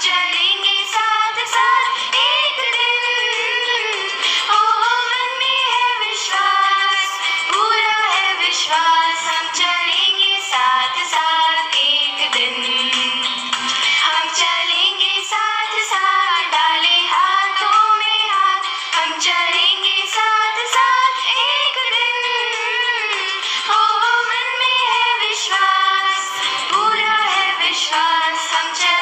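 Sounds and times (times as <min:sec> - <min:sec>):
woman singing prayer song: 0:00.0 - 0:29.0.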